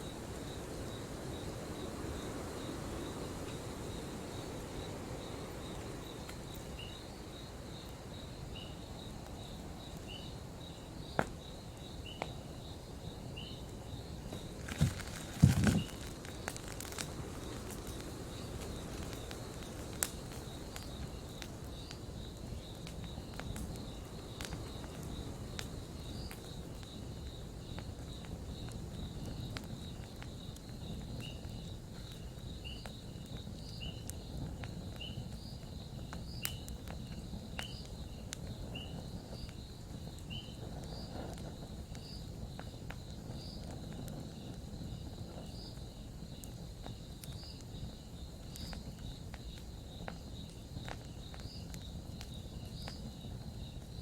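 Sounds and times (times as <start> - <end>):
campfire crackling and popping: 0.0 - 54.0
insect chirping: 0.0 - 54.0.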